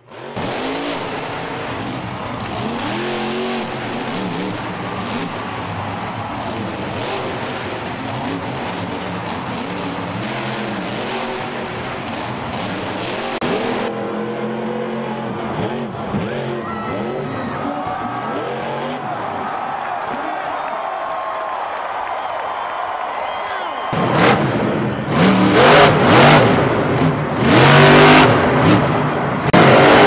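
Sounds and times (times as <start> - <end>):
monster truck engine revving: 0.0 - 20.8, 23.6 - 30.0
loud dense noise: 0.0 - 30.0.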